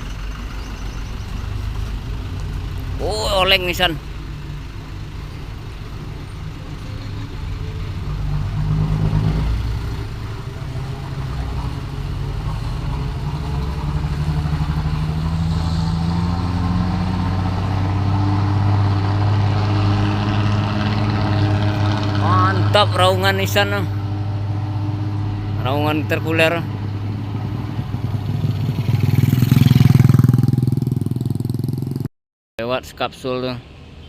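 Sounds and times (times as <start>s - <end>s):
diesel truck engine roaring: 0.0s - 32.0s.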